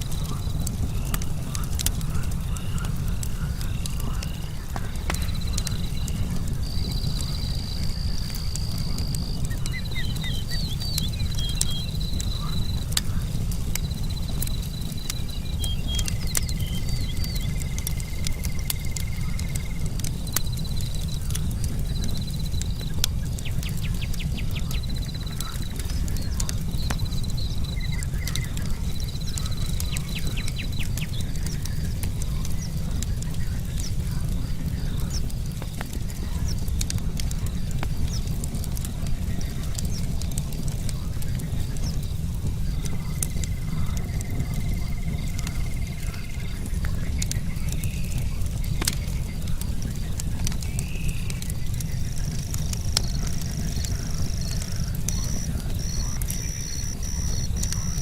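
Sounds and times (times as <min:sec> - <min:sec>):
campfire crackling and popping: 0:00.0 - 0:58.0
crickets trilling: 0:00.0 - 0:58.0.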